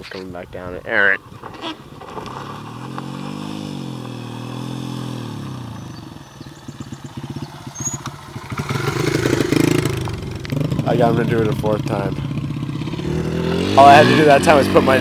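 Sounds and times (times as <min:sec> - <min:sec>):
dirt bike engine revving: 0:01.9 - 0:15.0.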